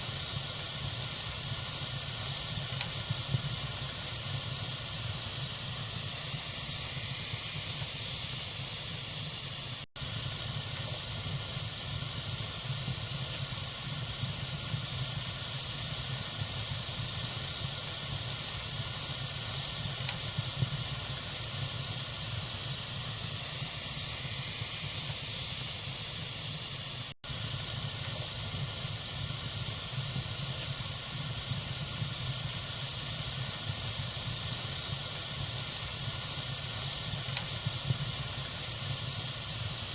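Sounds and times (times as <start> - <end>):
faint fire crackles: 0.0 - 39.9
wood fire hissing: 0.0 - 39.9.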